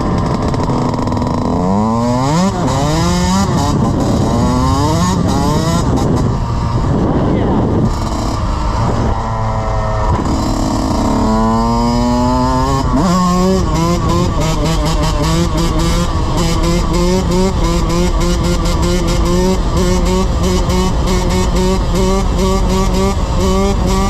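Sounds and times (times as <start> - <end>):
dirt bike engine accelerating: 0.0 - 24.0.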